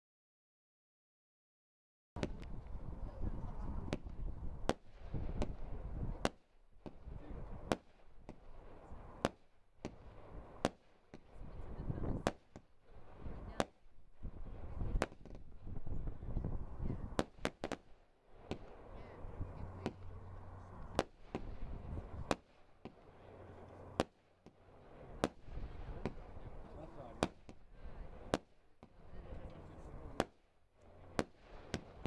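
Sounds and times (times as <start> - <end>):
firework bangs: 2.2 - 32.0.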